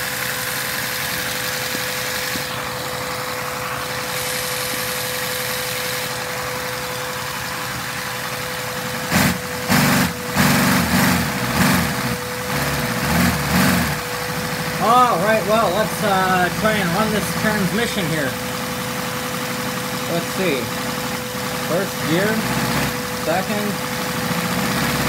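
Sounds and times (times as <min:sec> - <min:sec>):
vacuum suction hum and hiss: 0:00.0 - 0:11.2, 0:13.8 - 0:24.2
constant whine: 0:00.0 - 0:25.0.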